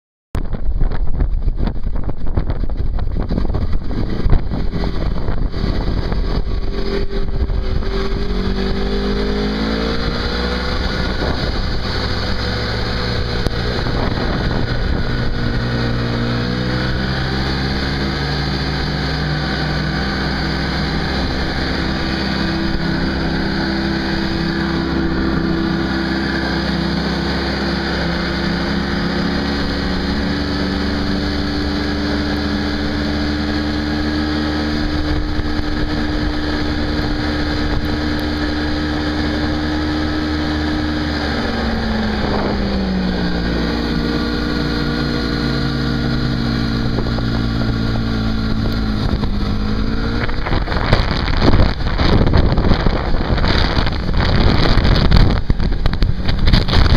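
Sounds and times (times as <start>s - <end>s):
wind buffeting microphone: 0.4s - 56.9s
snowmobile engine revving: 3.0s - 56.9s.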